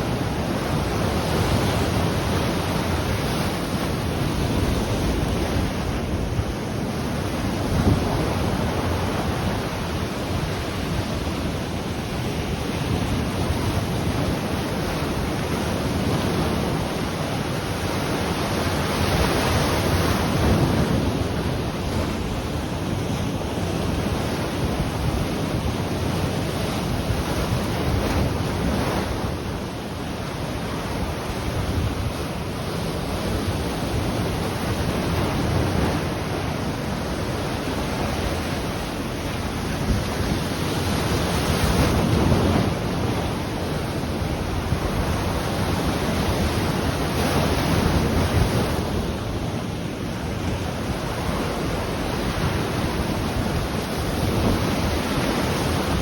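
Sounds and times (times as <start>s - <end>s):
ocean waves breaking: 0.0s - 56.0s
wind buffeting microphone: 0.0s - 56.0s.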